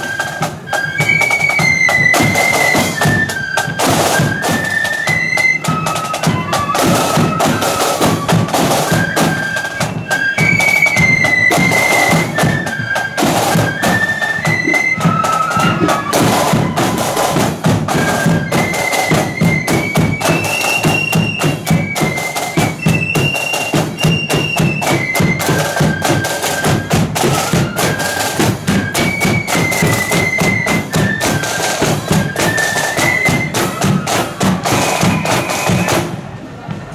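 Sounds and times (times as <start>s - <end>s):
flute melody: 0.0s - 36.2s
steady drumming: 5.5s - 36.2s.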